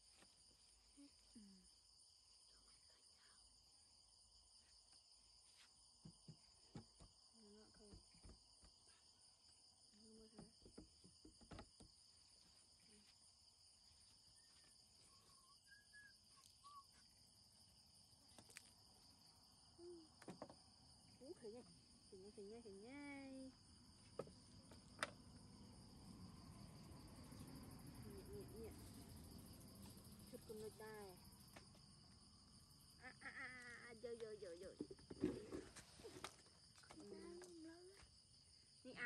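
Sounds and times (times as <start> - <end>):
crickets and insects calling: 0.0 - 39.0.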